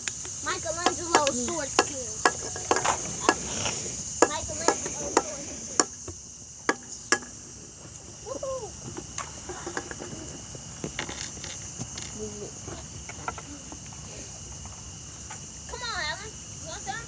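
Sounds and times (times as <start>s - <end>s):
high-pitched insect chirring: 0.0s - 17.0s.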